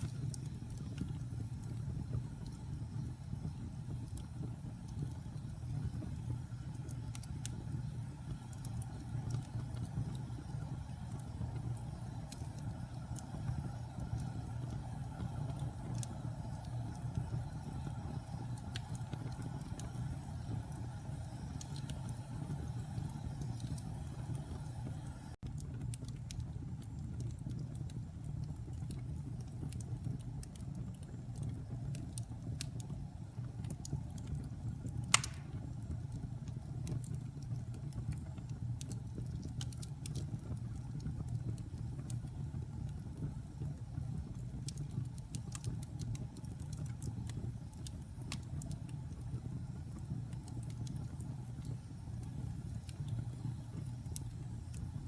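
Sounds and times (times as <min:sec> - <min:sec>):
fire crackling and popping: 0:00.0 - 0:55.0
wood fire rumbling: 0:00.0 - 0:55.0.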